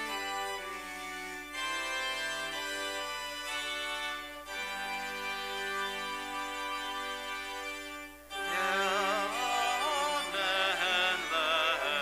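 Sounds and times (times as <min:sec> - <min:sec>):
church organ playing hymn chords: 0:00.0 - 0:12.0.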